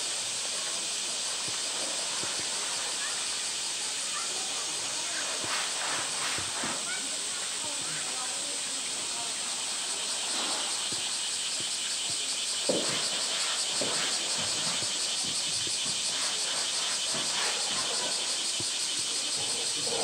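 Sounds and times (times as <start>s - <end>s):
cicadas chorus: 0.0s - 20.0s.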